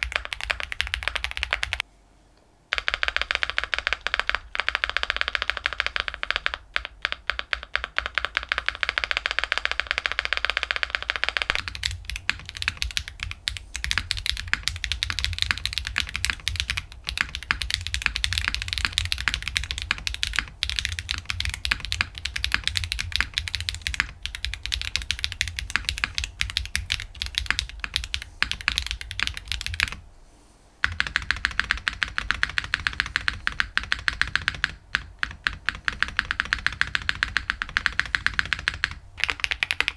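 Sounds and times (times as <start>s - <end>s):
fast mechanical keyboard typing: 0.0s - 1.8s, 2.7s - 30.0s, 30.8s - 39.9s.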